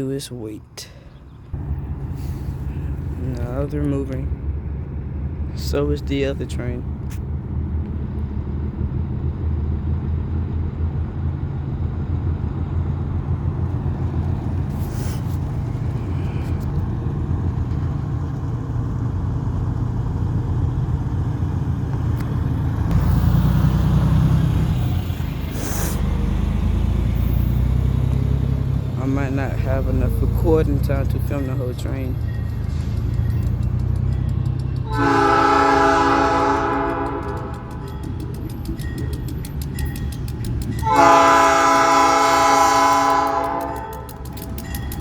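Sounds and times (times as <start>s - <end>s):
diesel locomotives rumbling: 0.0s - 45.0s.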